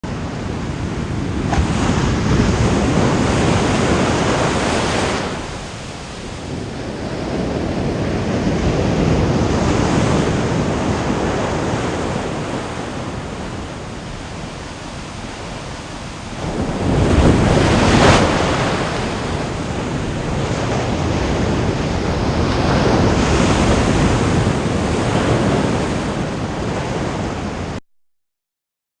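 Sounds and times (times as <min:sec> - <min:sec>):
ocean waves breaking: 0:00.0 - 0:27.8.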